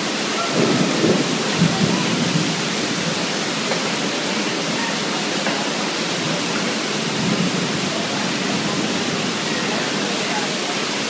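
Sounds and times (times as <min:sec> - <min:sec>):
heavy rain on flooded ground: 0:00.0 - 0:11.0.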